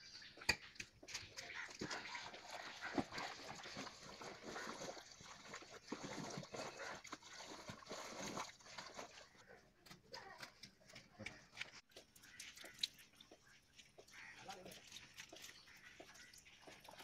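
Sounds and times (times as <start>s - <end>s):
cement sloshing and scraping: 1.0s - 17.0s.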